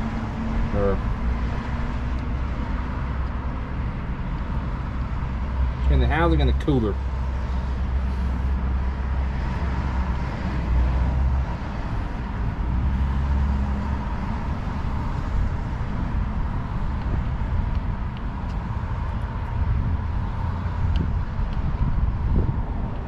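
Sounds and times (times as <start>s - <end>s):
low engine rumble: 0.0s - 23.0s.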